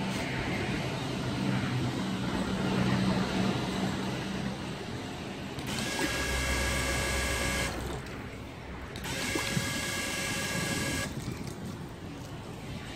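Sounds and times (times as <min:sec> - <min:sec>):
filling machine pump whine: 0:00.0 - 0:12.9.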